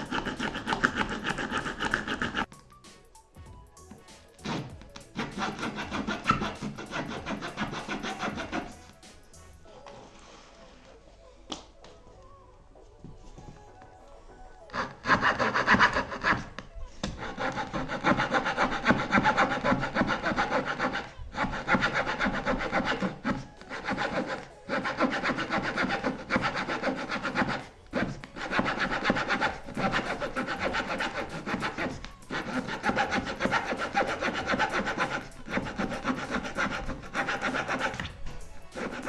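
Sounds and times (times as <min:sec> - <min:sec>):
multitool saw blade sawing: 0:00.0 - 0:09.7, 0:17.2 - 0:39.0.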